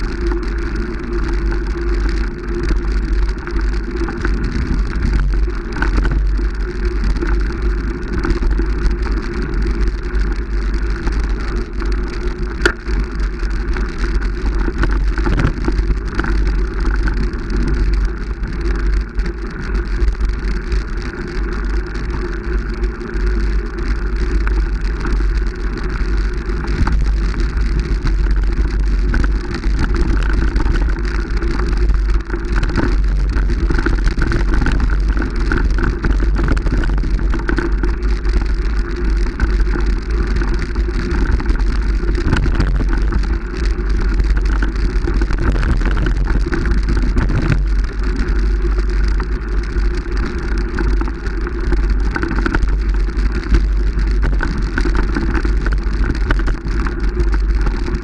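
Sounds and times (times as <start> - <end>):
vehicle running with low rumble: 0.0 - 58.0.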